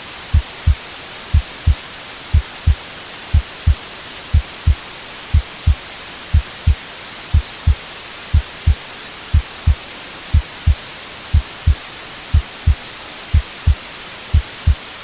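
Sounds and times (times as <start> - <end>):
white-noise hiss: 0.0 - 15.0
heartbeat thumps: 0.3 - 15.0.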